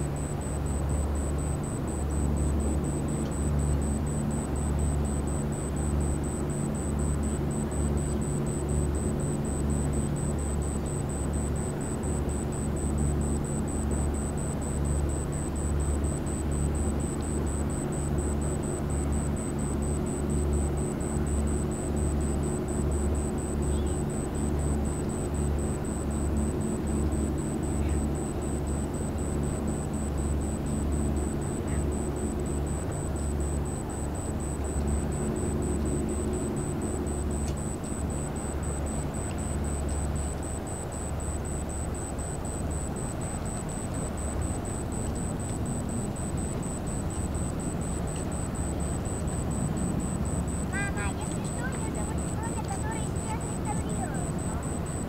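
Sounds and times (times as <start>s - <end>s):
constant hum: 0.0s - 55.0s.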